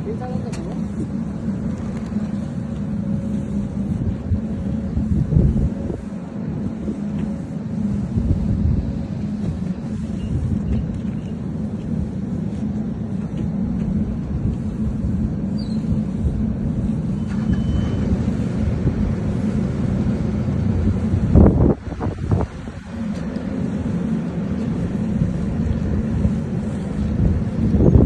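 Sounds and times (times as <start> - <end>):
low drone of machinery: 0.0 - 28.0.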